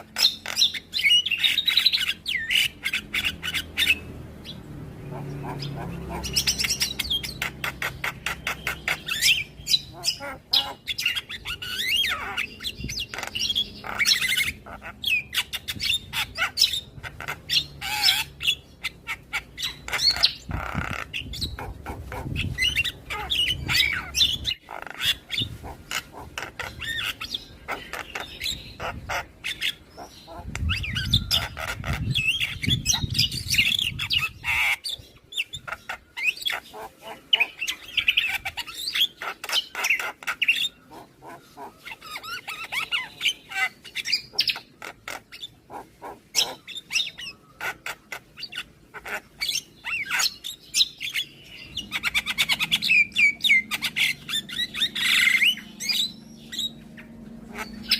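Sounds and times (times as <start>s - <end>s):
myna bird chattering and whistling: 0.0s - 57.9s.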